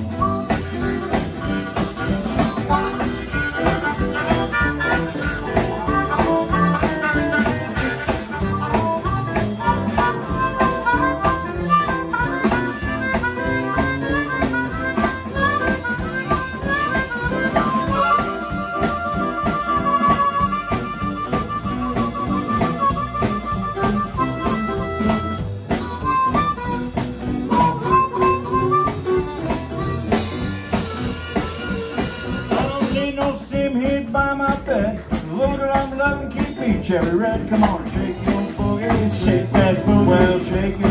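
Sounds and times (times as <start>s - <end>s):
blues harmonica solo: 0.0s - 40.9s
live blues band: 0.0s - 40.9s.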